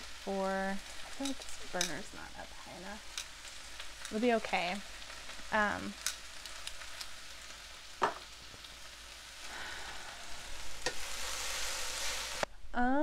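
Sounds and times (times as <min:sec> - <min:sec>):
chicken sizzling in oil: 0:00.0 - 0:12.5.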